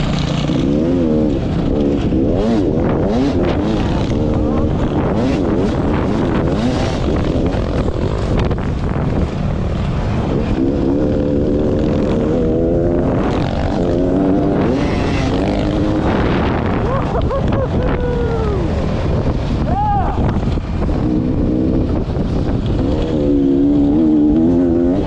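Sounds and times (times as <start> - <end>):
dirt bike engine revving: 0.0 - 19.7, 20.3 - 25.0
wind noise on microphone: 0.0 - 25.0.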